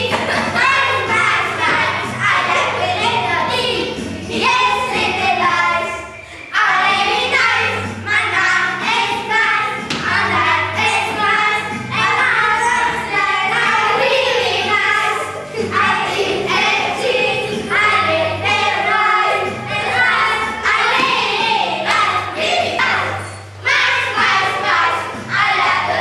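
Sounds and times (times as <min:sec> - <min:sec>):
children singing in chorus: 0:00.0 - 0:26.0.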